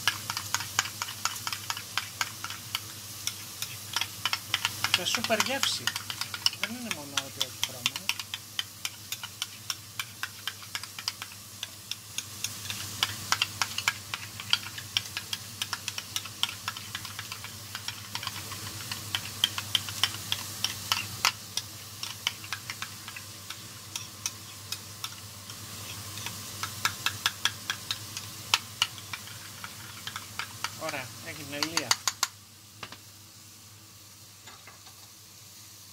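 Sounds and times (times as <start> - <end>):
burgers sizzling in pan: 0.0 - 35.9.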